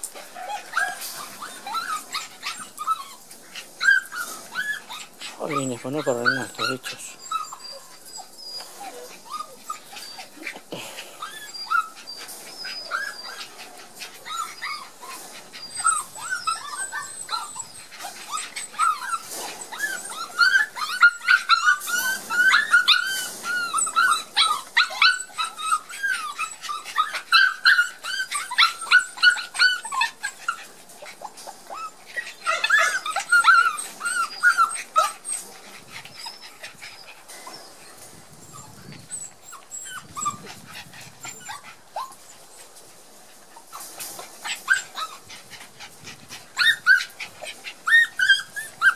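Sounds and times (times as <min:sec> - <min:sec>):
puppies whining: 0:00.0 - 0:48.9.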